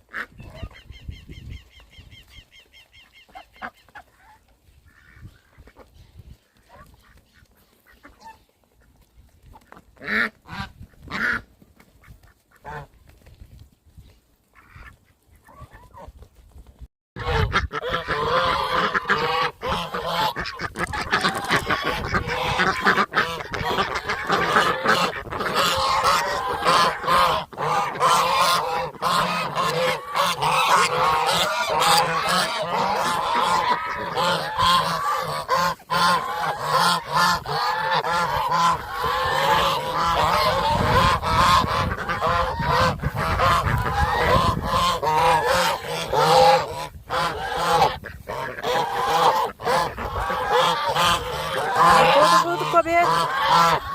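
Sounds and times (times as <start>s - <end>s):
geese honking: 0.0s - 5.9s, 10.0s - 12.9s, 17.2s - 53.9s.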